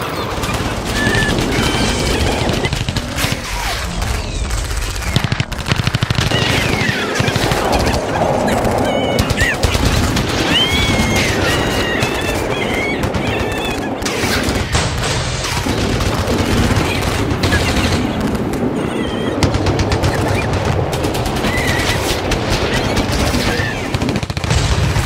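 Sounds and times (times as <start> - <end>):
people squealing and yelping: 0.0 - 5.2, 6.2 - 14.7, 16.7 - 20.6, 21.3 - 24.0
roller coaster car clattering: 0.0 - 24.0.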